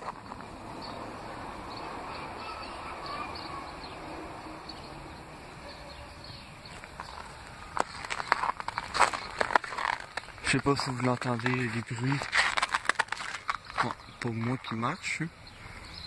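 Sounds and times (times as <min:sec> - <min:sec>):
low rumble of city traffic: 0:00.0 - 0:16.0.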